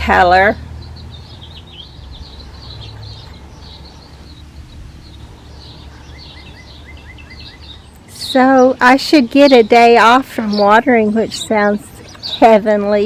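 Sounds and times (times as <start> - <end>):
low steady rumble: 0.0 - 13.0
small birds chirping: 0.0 - 13.0.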